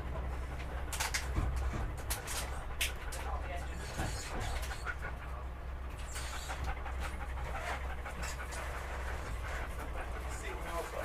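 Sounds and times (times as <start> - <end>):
steady low hum: 0.0 - 11.0
quick rhythmic panting: 0.2 - 11.0.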